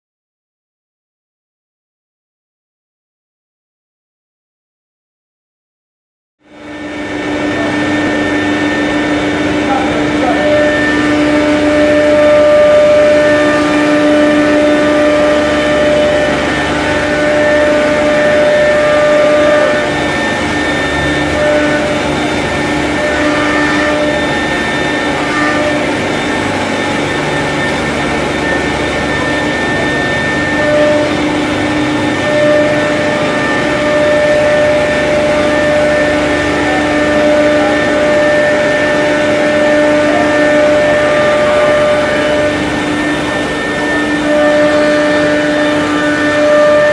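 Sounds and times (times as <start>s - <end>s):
cnc router machine noise: 6.4s - 46.9s
high whining tones: 6.5s - 46.9s.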